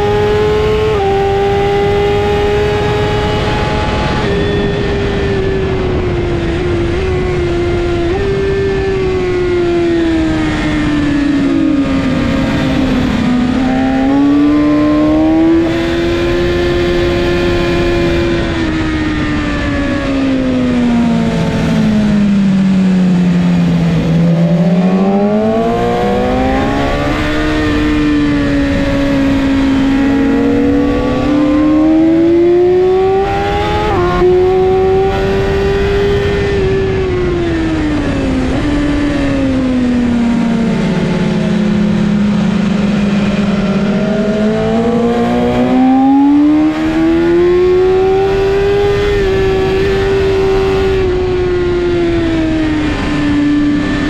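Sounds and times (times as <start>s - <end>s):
motorcycle engine at racing speed: 0.0s - 54.0s
wind rush: 0.0s - 54.0s.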